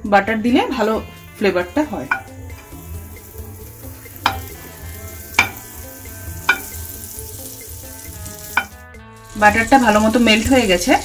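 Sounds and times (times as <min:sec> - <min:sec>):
butter sizzling in a frying pan: 0:00.5 - 0:11.0.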